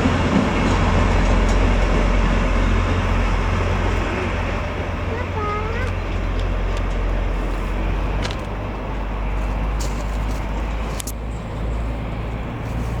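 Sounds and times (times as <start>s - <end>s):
diesel locomotive droning: 0.0s - 13.0s.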